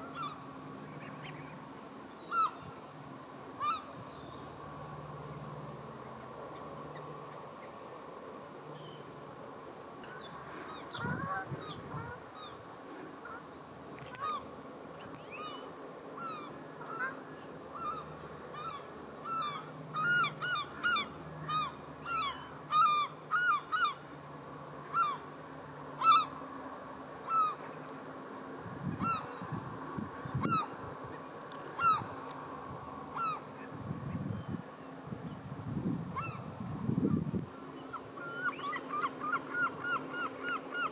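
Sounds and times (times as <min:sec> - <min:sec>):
estuary birds calling: 0:00.0 - 0:09.2, 0:10.0 - 0:40.9.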